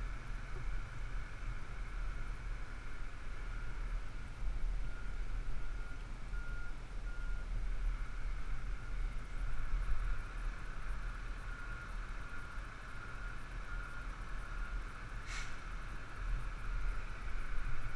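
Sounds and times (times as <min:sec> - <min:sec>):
faint reversing alarm beeps: 0:00.0 - 0:15.7
diesel engine low rumble: 0:00.0 - 0:17.9.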